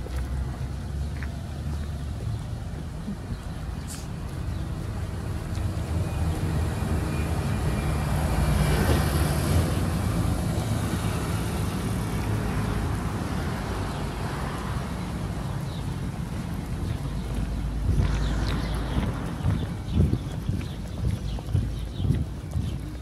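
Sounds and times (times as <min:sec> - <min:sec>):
road traffic rumbling: 0:00.0 - 0:23.0
vehicle passing: 0:00.0 - 0:23.0.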